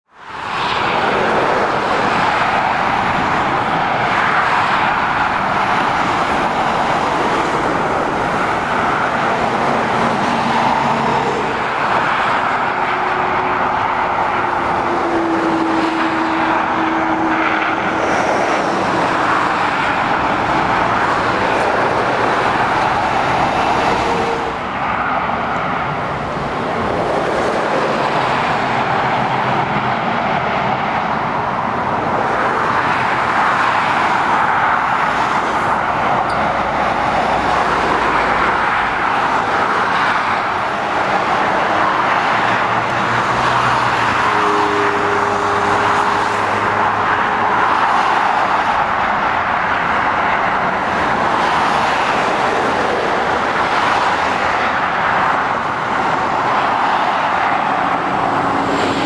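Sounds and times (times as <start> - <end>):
road traffic roar: 0.0 - 59.0.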